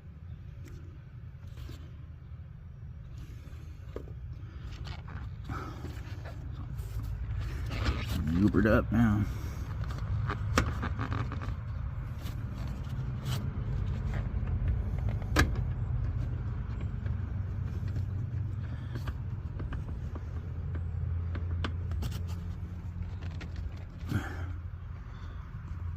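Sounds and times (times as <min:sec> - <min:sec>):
low mechanical rumble: 0:00.0 - 0:25.9.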